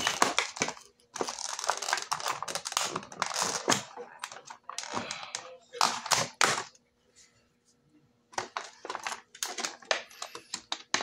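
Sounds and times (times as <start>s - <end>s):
plastic packaging crinkling and clicking: 0.0s - 6.8s, 8.3s - 11.0s.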